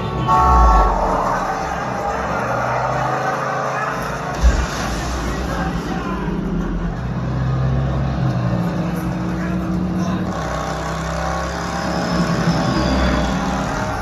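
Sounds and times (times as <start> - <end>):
motor vehicle engines running hard: 0.0 - 14.0.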